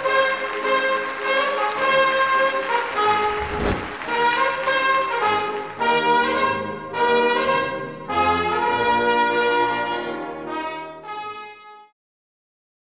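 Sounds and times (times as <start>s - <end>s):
brass chords: 0.0s - 11.9s.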